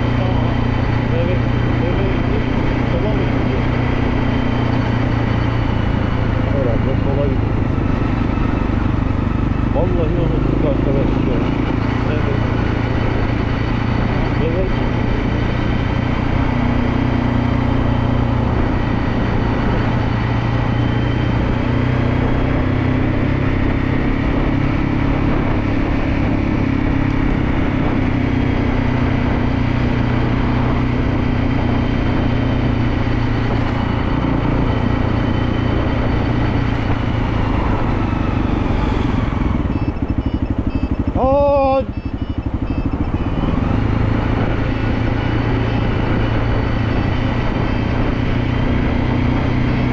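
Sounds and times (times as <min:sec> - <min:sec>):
constant rushing noise: 0:00.0 - 0:49.9
motorcycle engine running: 0:00.0 - 0:49.9.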